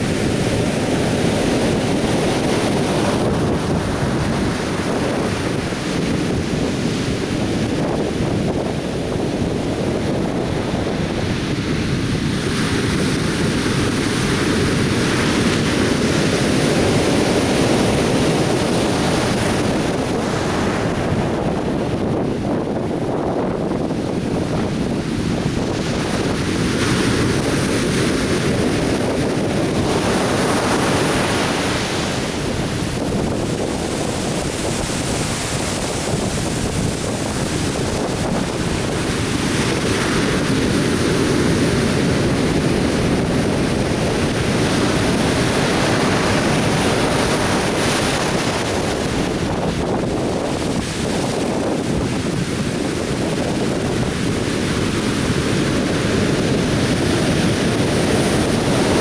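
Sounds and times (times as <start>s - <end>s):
surf breaking on a beach: 0.0s - 59.0s
wind buffeting the microphone: 0.0s - 59.0s.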